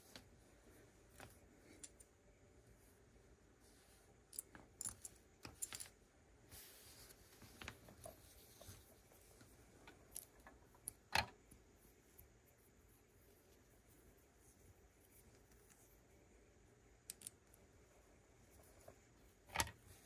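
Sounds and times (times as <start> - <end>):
soft rustle: 0.0 - 4.4, 5.0 - 16.8, 17.6 - 20.0.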